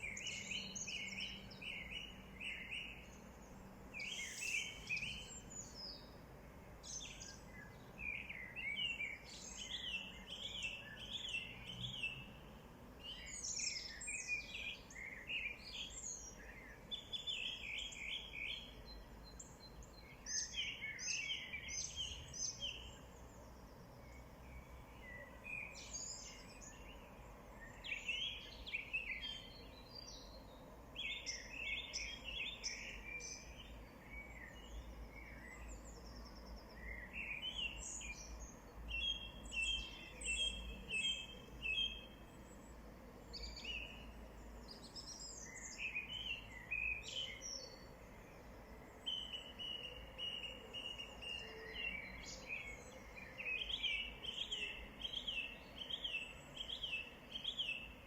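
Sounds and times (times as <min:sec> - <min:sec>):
faint background noise: 0:00.0 - 0:58.0
small birds chirping: 0:00.0 - 0:58.0.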